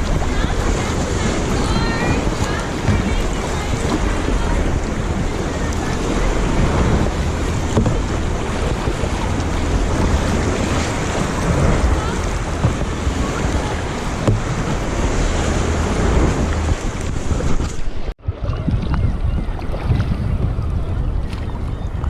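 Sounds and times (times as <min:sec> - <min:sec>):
lake waves rushing: 0:00.0 - 0:22.0
wind buffeting microphone: 0:00.0 - 0:22.0.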